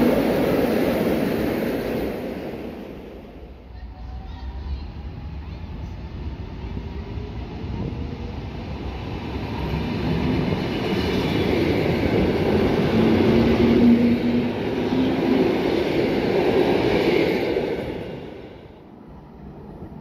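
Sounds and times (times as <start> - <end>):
train wheels running past: 0.0 - 20.0.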